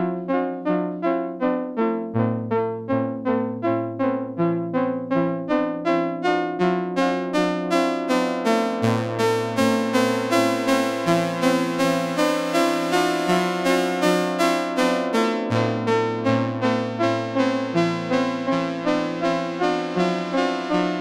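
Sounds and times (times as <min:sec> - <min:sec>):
synthesizer electric piano notes: 0:00.0 - 0:21.0.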